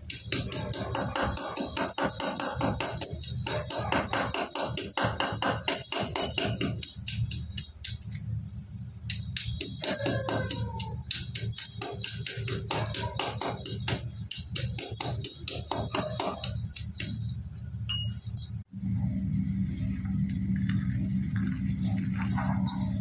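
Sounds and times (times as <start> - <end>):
steady low hum: 0.0 - 10.0, 10.7 - 23.0.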